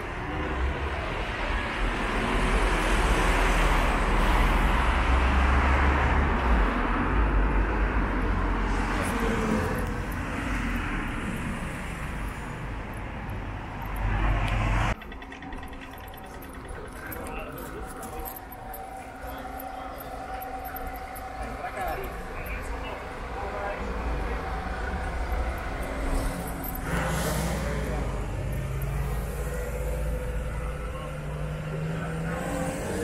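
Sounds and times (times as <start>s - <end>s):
cars passing: 0.0s - 33.0s
low traffic rumble: 0.0s - 33.0s.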